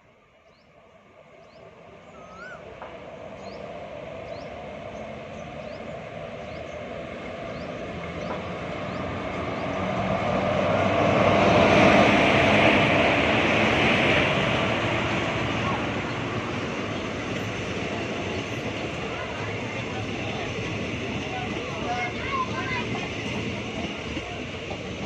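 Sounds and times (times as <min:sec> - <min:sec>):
train approaching rumble: 0:00.0 - 0:25.0.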